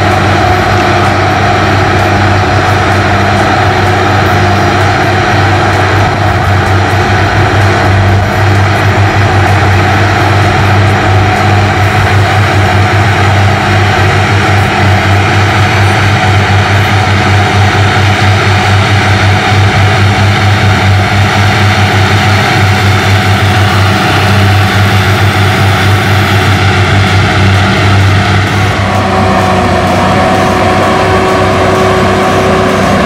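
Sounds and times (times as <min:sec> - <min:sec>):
tractor engines droning: 0:00.0 - 0:33.0.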